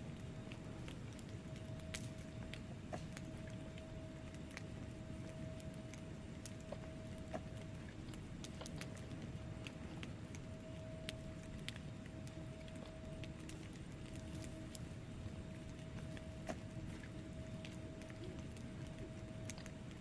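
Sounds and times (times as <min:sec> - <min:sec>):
faint steady tone: 0:00.0 - 0:20.0
logs crackling and popping: 0:00.0 - 0:20.0
low rumble of flames: 0:00.0 - 0:20.0.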